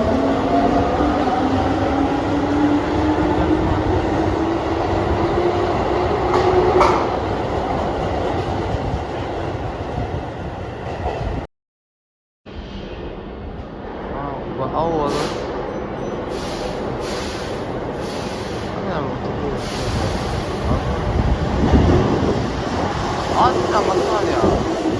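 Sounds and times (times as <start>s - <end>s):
train rolling noise: 0.0s - 11.5s, 12.5s - 24.9s.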